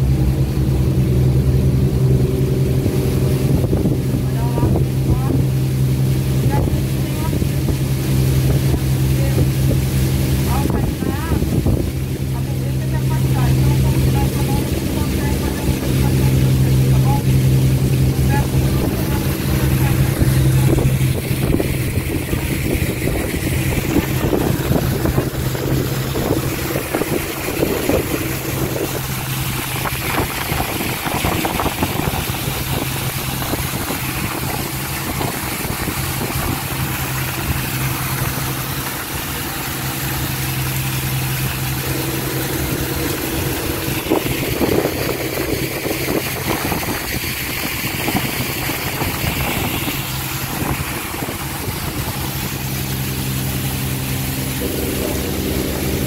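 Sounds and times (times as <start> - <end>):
ferry engine humming: 0.0 - 56.0
water rushing along hull: 0.0 - 56.0.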